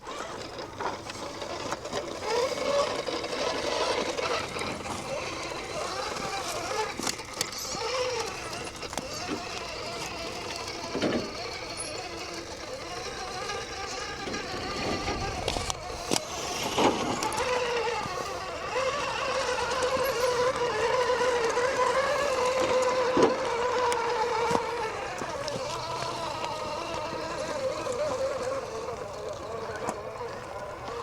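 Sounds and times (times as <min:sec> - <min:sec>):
small electric motor whining: 0:00.0 - 0:31.0.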